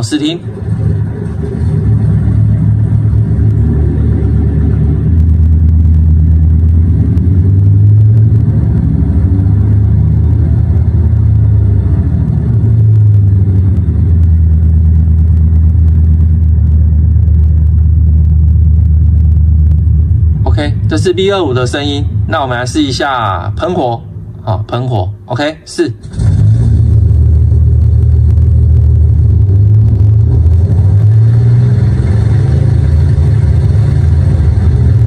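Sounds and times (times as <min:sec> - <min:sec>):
simulated aircraft engine rumble: 0:00.0 - 0:35.0.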